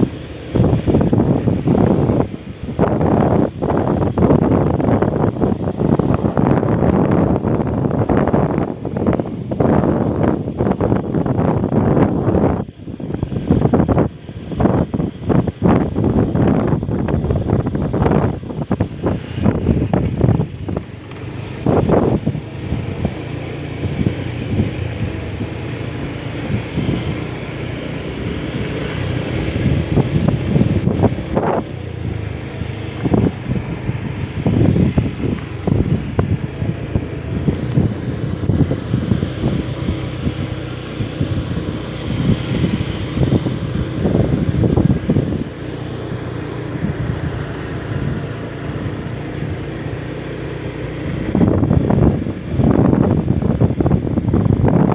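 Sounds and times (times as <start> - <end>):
low rumble: 0.0 - 54.9
wind buffeting microphone: 0.0 - 54.9.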